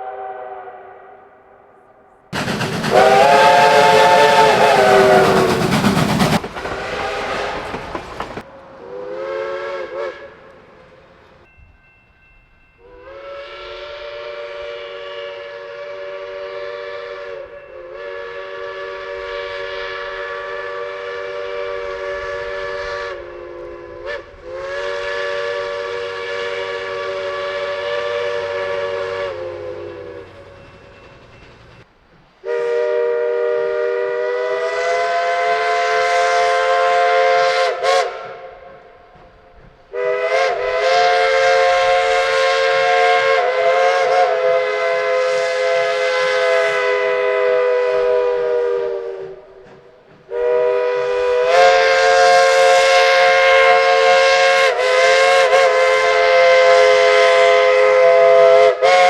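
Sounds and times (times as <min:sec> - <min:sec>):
locomotive chime whistle blasts: 0:00.0 - 0:01.8, 0:02.4 - 0:05.8, 0:06.7 - 0:07.9, 0:08.8 - 0:10.8, 0:11.4 - 0:59.0.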